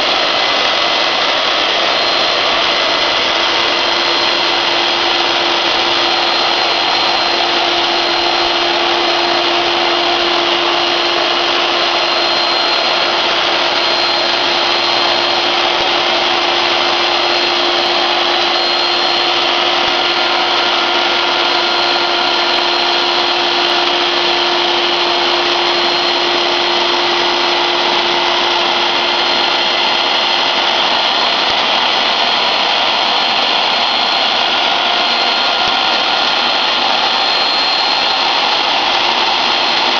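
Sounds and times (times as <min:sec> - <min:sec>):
cnc router cutting: 0:00.0 - 0:39.9
spindle whine: 0:00.0 - 0:39.9.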